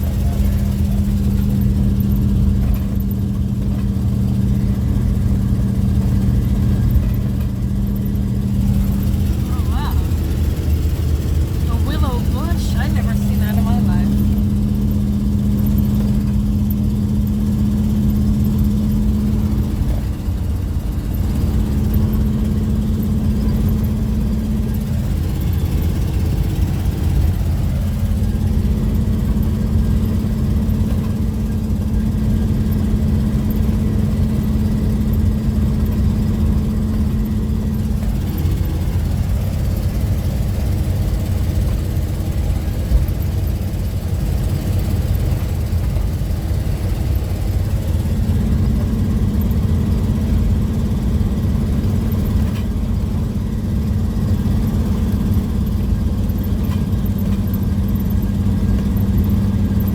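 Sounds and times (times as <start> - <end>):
engine and road rumble: 0.0 - 59.9
steady hum: 0.0 - 59.9.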